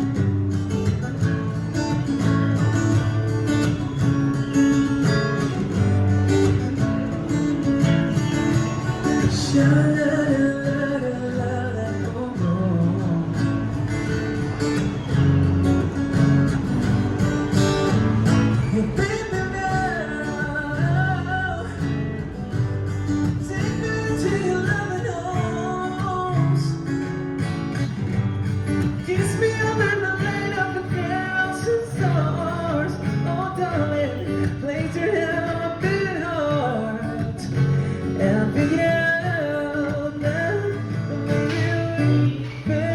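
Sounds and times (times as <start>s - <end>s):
acoustic guitar playing: 0.0s - 42.9s.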